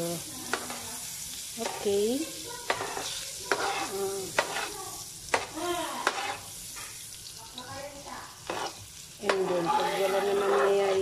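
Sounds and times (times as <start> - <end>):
margarine sizzling in a frying pan: 0.0 - 11.0.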